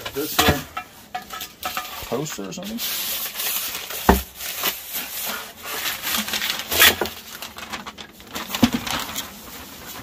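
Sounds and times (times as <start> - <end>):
paper rustling and crinkling: 1.7 - 10.0.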